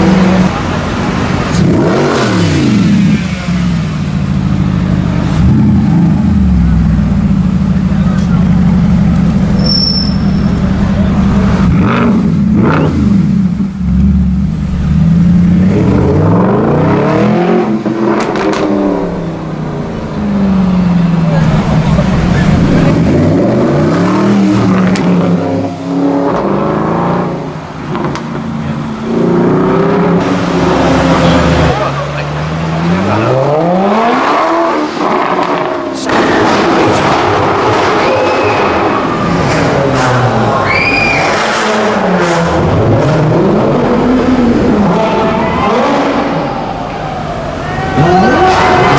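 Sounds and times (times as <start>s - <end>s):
car engine burbling and revving: 0.0s - 48.9s.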